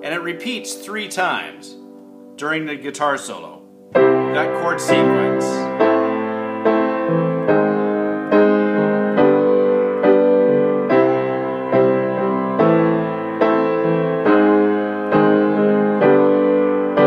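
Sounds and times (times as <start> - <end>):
piano playing block chords: 0.0 - 17.0.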